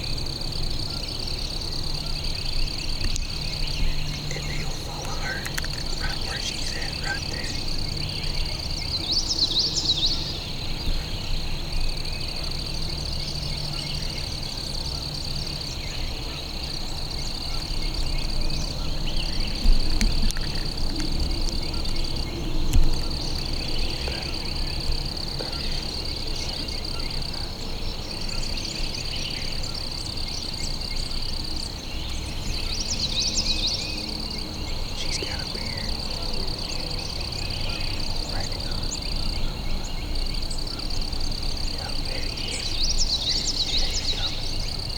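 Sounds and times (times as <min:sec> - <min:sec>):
insects and frogs calling: 0:00.0 - 0:44.9
songbird singing: 0:00.0 - 0:44.9.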